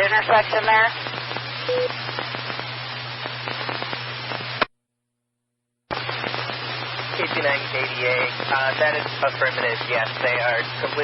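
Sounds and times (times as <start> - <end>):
radio static hiss: 0.0 - 4.7, 5.9 - 11.0.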